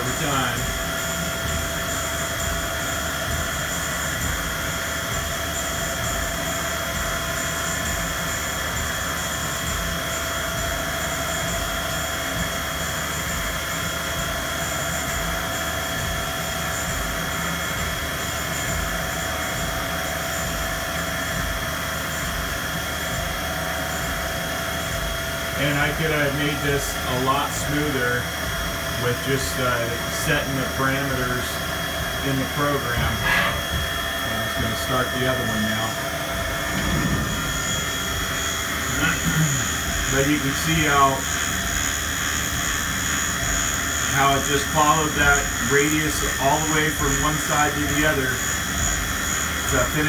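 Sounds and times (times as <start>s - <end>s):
milling spindle whine: 0.0s - 50.0s.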